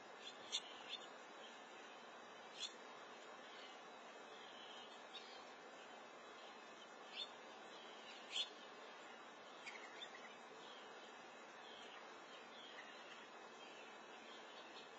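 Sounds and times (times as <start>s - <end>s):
faint steady hiss: 0.0s - 14.9s.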